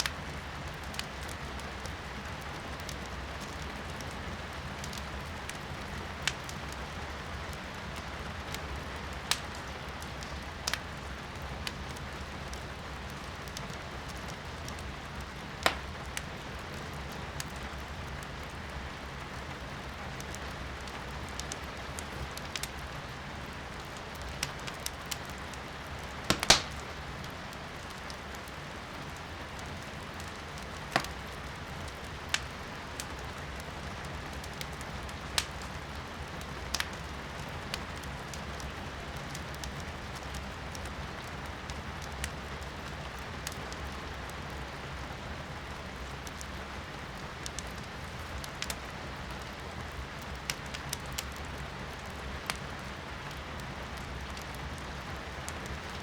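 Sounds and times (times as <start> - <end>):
rain heard from indoors: 0.0 - 56.0
wood fire crackling and popping: 0.0 - 56.0.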